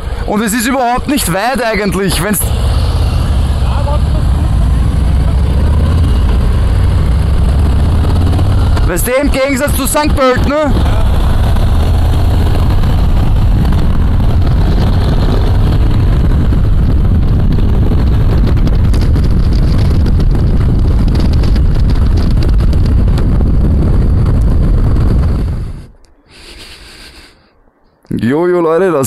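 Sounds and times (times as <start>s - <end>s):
motorcycle engine rumble: 0.0s - 26.0s
wind rushing over microphone: 0.0s - 27.3s.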